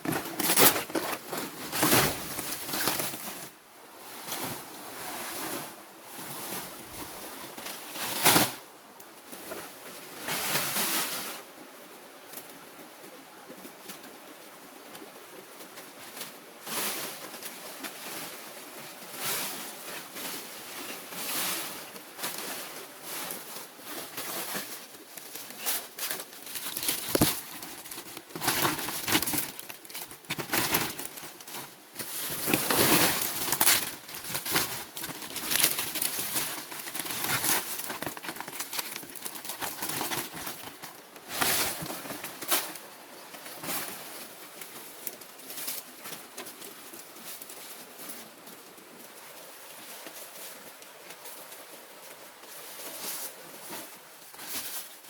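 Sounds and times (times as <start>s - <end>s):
rustling and crinkling: 0.0s - 11.5s, 12.3s - 55.0s.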